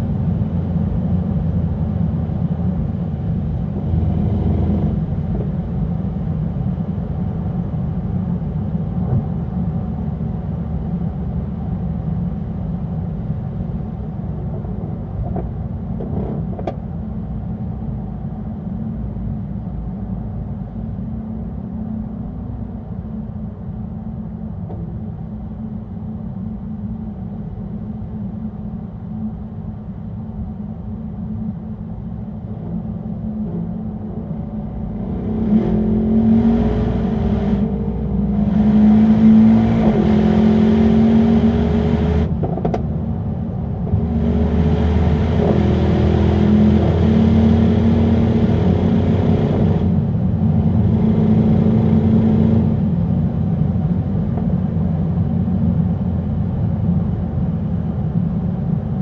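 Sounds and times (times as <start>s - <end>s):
car engine rumble while driving: 0.0s - 59.0s.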